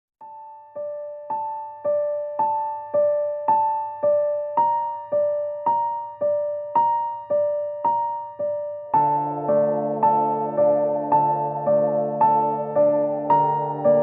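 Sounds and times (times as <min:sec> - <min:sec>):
electric piano chords: 0:00.8 - 0:14.0.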